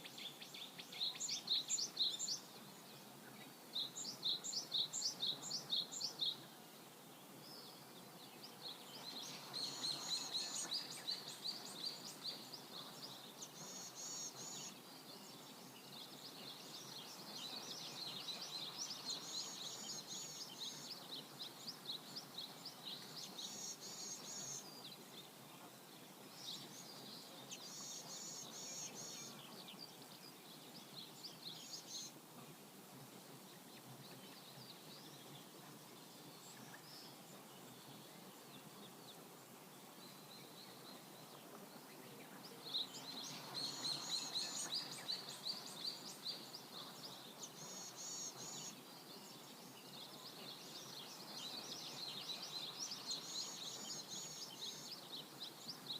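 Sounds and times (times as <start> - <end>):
songbirds chirping: 0.0 - 55.9.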